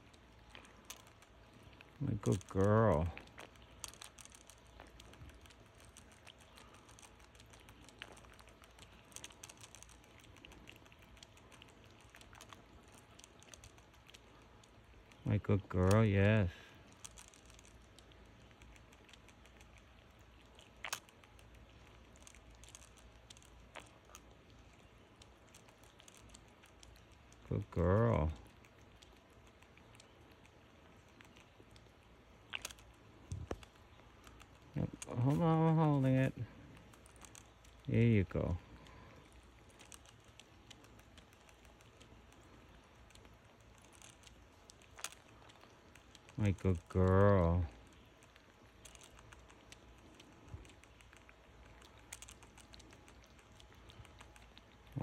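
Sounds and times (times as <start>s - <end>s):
squirrel licking water bottle spout: 0.0s - 55.0s.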